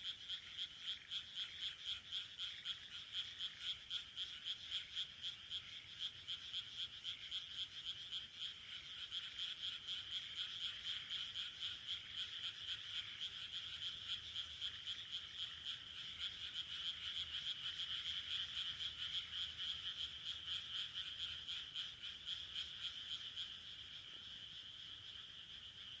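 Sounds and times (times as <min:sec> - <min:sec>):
frogs croaking: 0:00.0 - 0:26.0.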